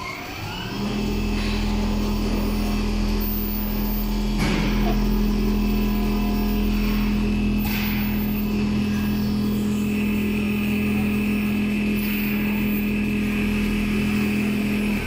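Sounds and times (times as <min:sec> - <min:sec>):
sewing machine humming: 0:00.0 - 0:15.0.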